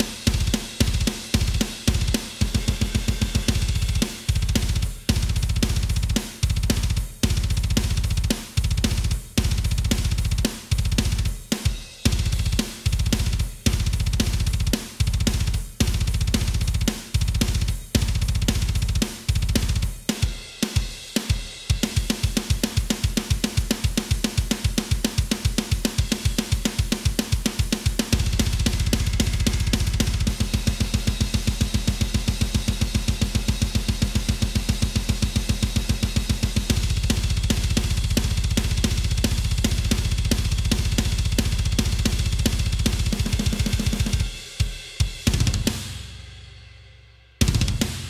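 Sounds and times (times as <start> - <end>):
metal drum kit playing: 0.0 - 46.6, 47.4 - 48.0.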